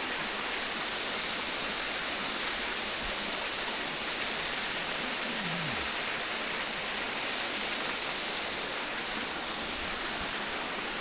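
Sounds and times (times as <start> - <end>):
rushing stream and waterfall: 0.0 - 11.0.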